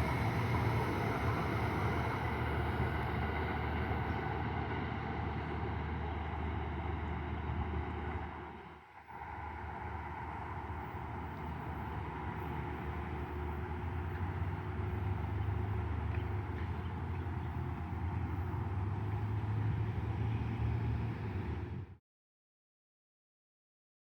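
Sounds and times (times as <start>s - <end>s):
passenger train running: 0.0s - 22.0s.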